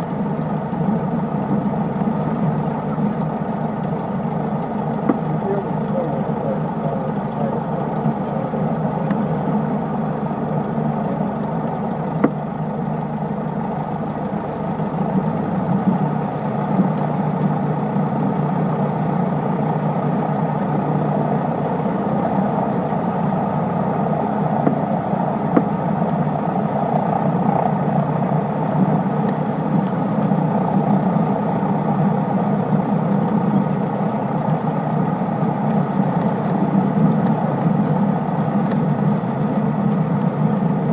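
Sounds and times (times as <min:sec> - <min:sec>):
light aircraft engine drone: 0:00.0 - 0:40.9.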